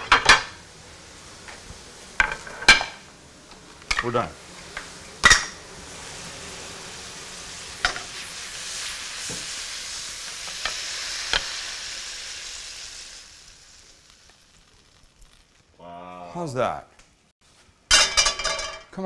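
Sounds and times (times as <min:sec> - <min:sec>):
food sizzling in a wok: 0:00.0 - 0:16.1.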